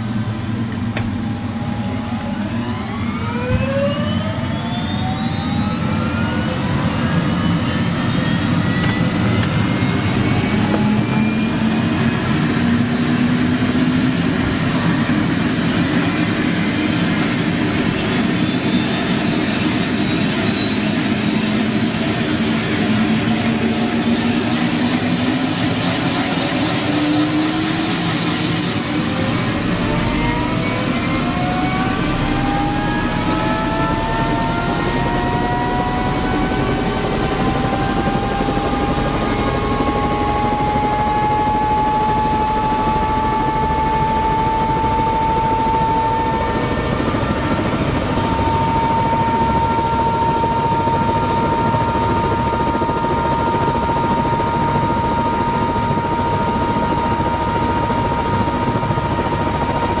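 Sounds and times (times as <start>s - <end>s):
helicopter turbine and rotor: 0.0s - 60.0s
rising turbine whine: 0.0s - 60.0s.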